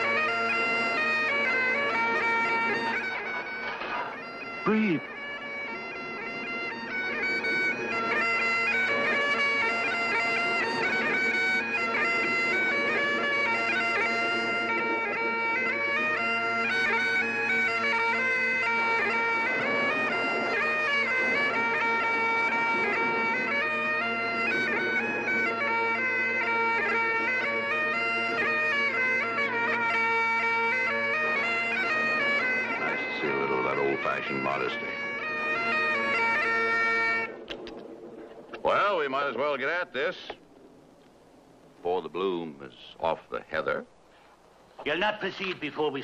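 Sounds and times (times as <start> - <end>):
bagpipes playing over drones: 0.0 - 39.6.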